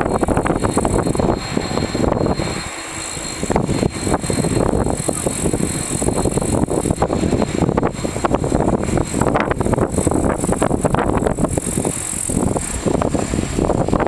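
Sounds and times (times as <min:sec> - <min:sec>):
fast rattling and bumping: 0:00.0 - 0:14.0
jet engines rumbling: 0:00.0 - 0:14.0.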